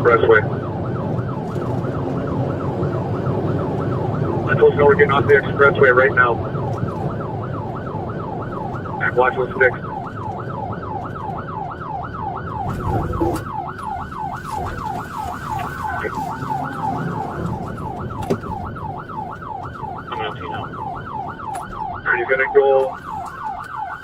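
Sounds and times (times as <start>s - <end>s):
police siren yelping: 0.0s - 24.0s
vehicle road noise: 0.0s - 24.0s.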